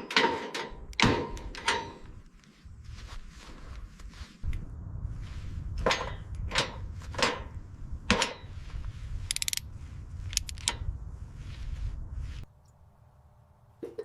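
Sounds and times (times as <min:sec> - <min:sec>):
low rumble: 0:00.8 - 0:13.8.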